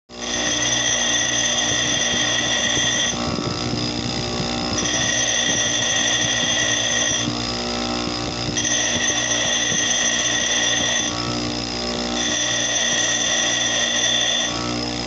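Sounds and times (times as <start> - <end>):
power tool whining: 0.1 - 15.0
rough scraping grind: 0.2 - 7.5, 8.4 - 11.3, 12.0 - 14.6.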